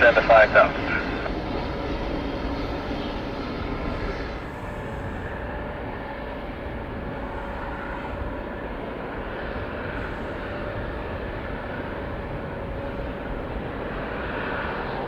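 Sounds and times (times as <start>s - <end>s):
jet aircraft rumble: 0.0s - 15.0s.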